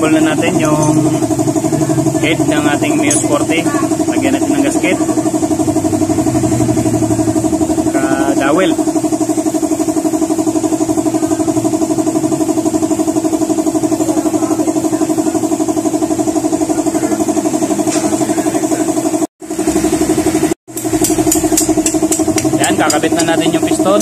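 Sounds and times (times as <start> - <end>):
pulsing mechanical drone: 0.0 - 24.0.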